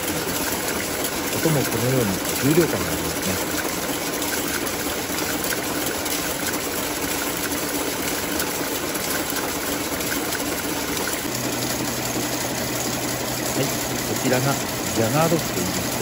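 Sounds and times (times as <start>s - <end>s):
needle loom running: 0.0s - 16.0s.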